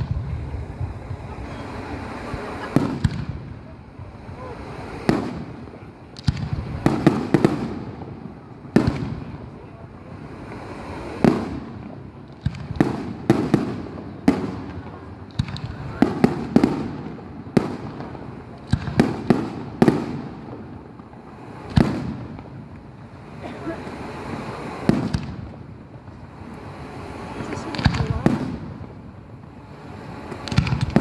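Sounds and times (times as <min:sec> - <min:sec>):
fireworks bangs with echo: 0:00.0 - 0:31.0.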